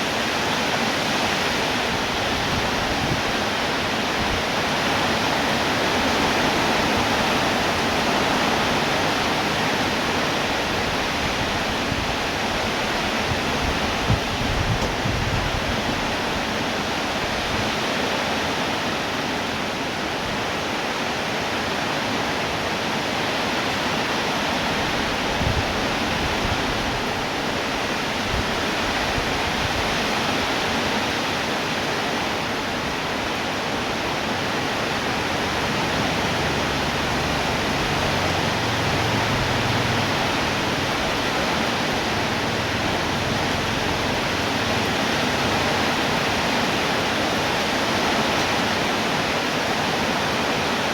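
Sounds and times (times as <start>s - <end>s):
heavy rain hiss: 0.0s - 50.9s.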